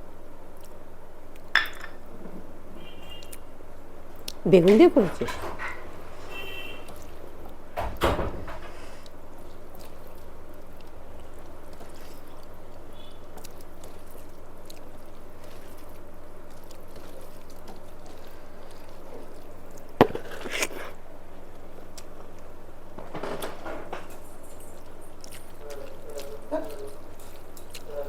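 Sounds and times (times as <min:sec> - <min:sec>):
steady low hum: 0:00.0 - 0:28.0
food mixed and eaten by hand: 0:00.4 - 0:02.1, 0:02.9 - 0:07.7, 0:08.7 - 0:28.0.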